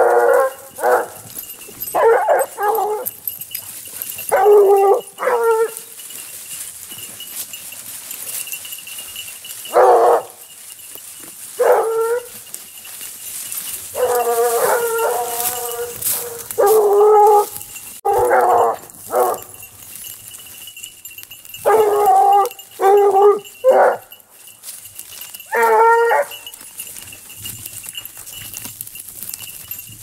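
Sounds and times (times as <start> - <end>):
hounds baying: 0.0 - 29.7.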